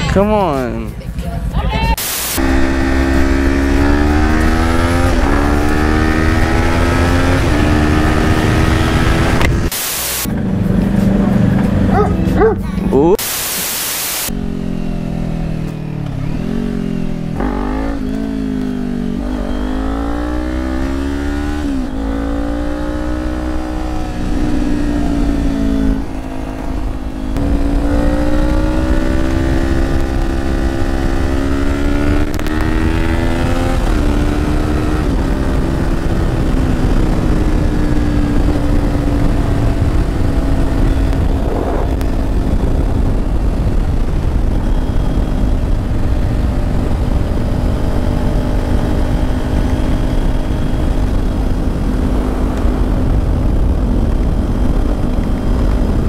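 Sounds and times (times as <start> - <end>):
motorcycle engine accelerating: 0.0 - 13.2, 14.1 - 56.0.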